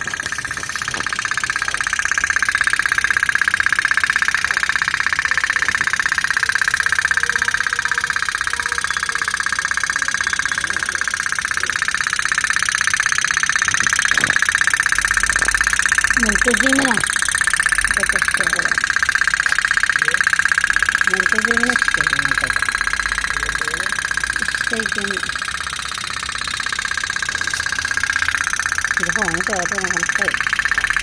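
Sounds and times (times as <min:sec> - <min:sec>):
toy boat motor buzzing whine: 0:00.0 - 0:31.0.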